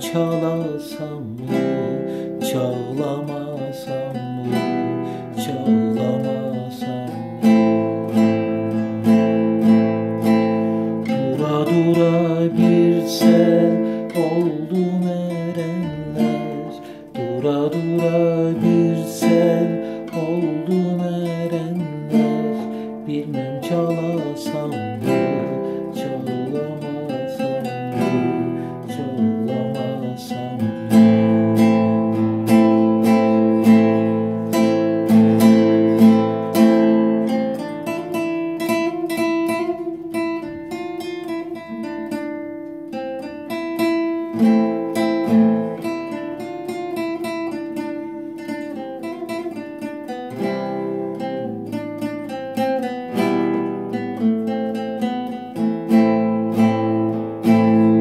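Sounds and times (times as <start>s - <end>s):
classical guitar playing: 0.0s - 58.0s.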